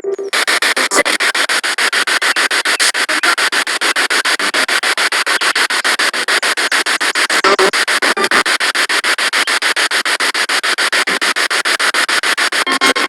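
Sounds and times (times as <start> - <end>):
radio static bursts: 0.0 - 13.0.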